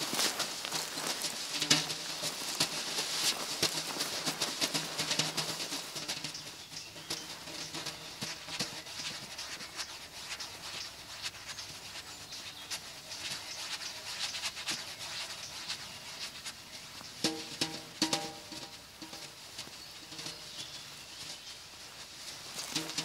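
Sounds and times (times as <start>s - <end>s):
snakes rustling over dry leaves: 0.0s - 23.0s.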